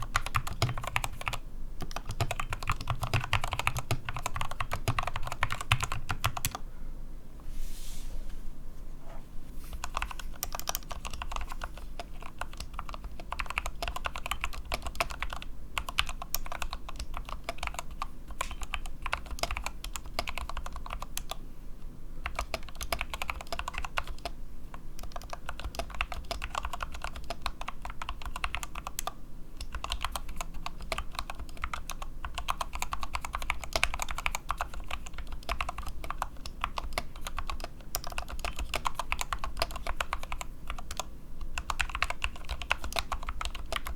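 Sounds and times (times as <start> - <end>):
mechanical keyboard typing: 0.0 - 6.6, 9.8 - 21.4, 22.2 - 43.9.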